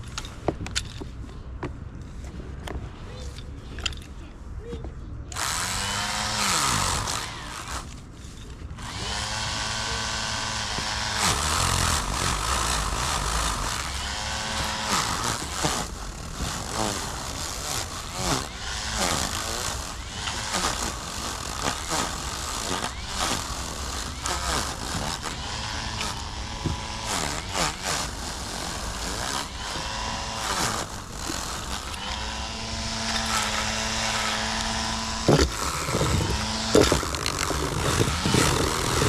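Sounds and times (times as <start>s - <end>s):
power tool motor whining: 5.3s - 39.0s.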